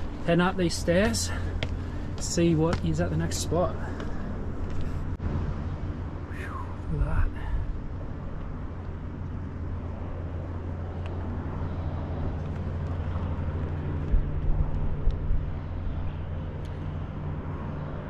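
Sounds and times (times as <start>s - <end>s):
distant engine hum: 0.0s - 18.0s.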